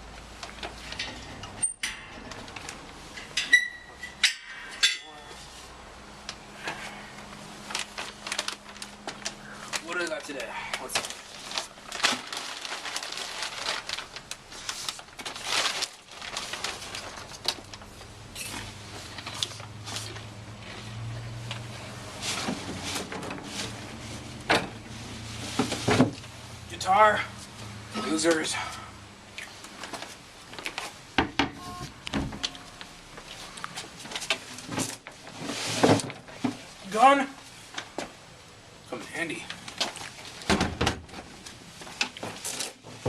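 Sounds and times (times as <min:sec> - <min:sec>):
low steady hum: 0:00.0 - 0:42.7
objects rustling and crinkling: 0:00.0 - 0:43.0.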